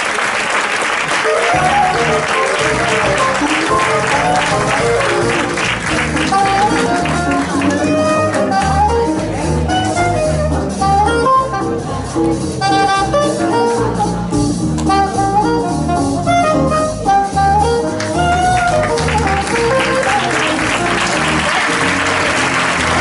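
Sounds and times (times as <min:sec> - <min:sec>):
melody of held notes: 0:01.3 - 0:23.0.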